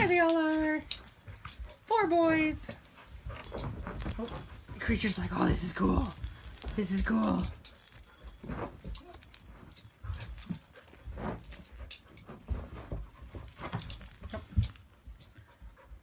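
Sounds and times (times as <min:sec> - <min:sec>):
toy balls rattling and jingling: 0:00.0 - 0:15.7
soft rustles and knocks: 0:00.0 - 0:16.0.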